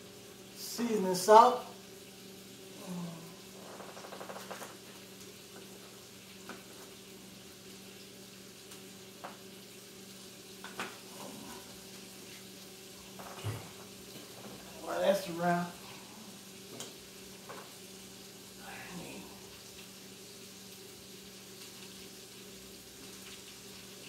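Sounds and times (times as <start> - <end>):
chicken sizzling in a skillet: 0.0 - 3.8, 4.6 - 24.0.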